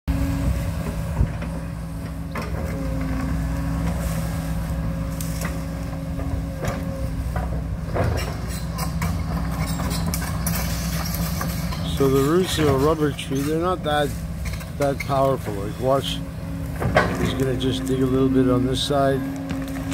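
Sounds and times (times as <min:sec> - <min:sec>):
backhoe engine running: 0:00.1 - 0:19.9.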